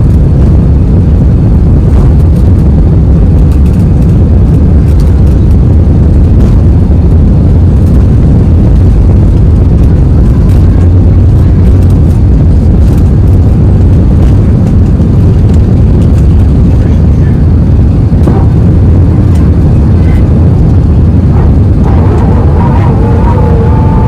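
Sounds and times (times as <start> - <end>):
airliner engines rumbling: 0.0 - 24.0.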